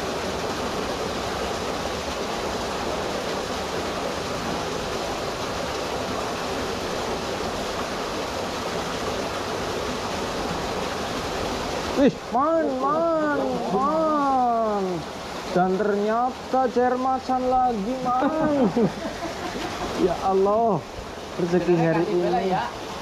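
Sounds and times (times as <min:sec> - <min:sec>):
water pouring from an outlet: 0:00.0 - 0:23.0
water rushing in a ditch: 0:00.0 - 0:23.0.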